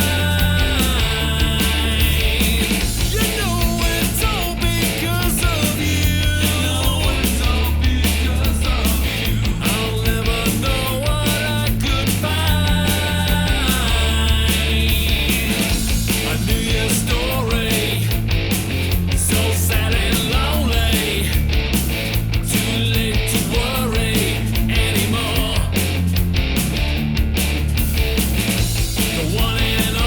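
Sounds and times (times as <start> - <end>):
rock music with steady beat: 0.0 - 30.0.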